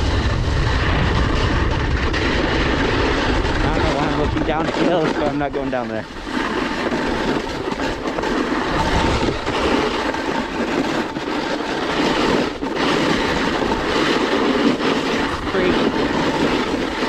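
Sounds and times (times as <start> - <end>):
snowboard scraping over snow: 0.0 - 17.0.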